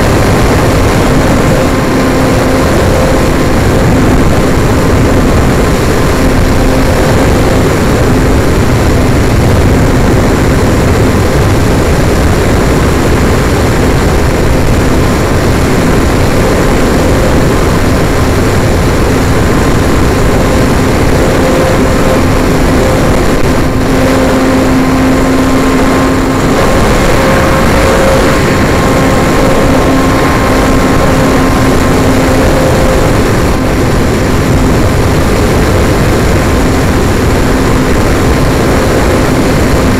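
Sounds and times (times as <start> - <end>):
faint steady whine: 0.0 - 39.9
model airplane motor and propeller: 0.0 - 39.9
wind rush on microphone: 0.0 - 39.9.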